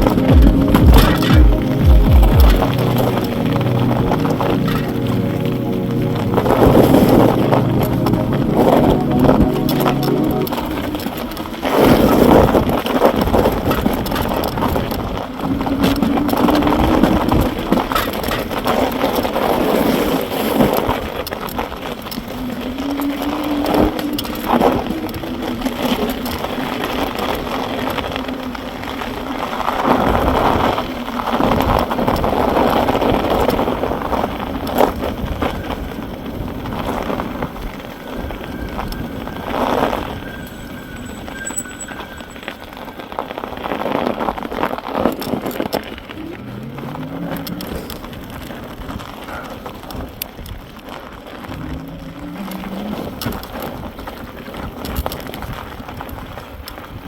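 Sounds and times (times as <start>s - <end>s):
electric bike riding rumble: 0.0s - 57.0s
wind noise on microphone: 0.0s - 57.0s.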